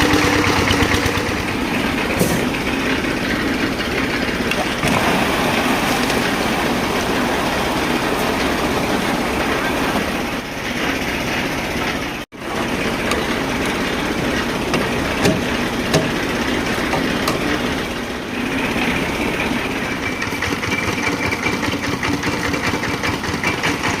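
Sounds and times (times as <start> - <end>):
hoist engine running: 0.0 - 24.0.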